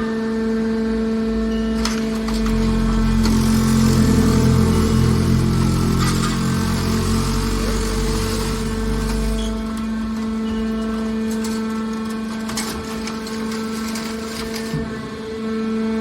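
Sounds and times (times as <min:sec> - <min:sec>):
hydraulic baler motor hum: 0:00.0 - 0:16.0.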